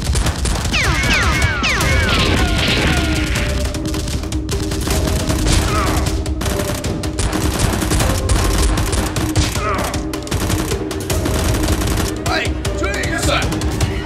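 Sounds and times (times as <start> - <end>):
gunfire sound effects: 0.0 - 12.6
background music: 0.0 - 14.0.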